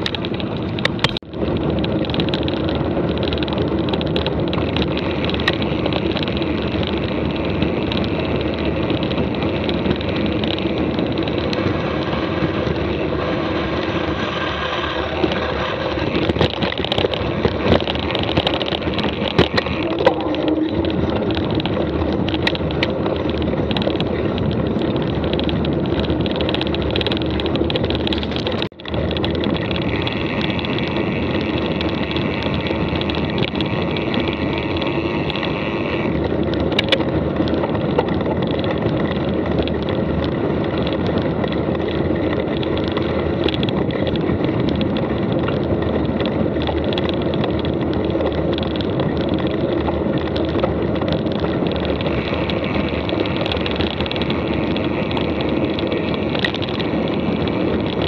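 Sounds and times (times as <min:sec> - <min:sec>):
bike clicks and rattles: 0:00.0 - 0:58.0
bike tyres rolling: 0:00.0 - 0:58.0.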